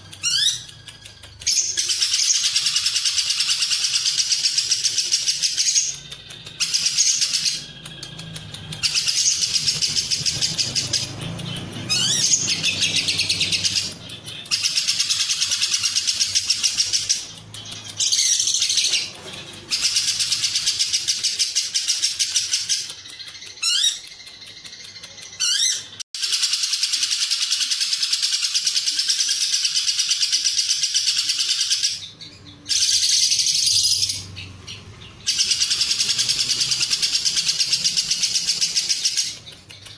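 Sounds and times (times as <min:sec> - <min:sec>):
bird buzzy high-pitched chattering: 0:00.0 - 0:39.9.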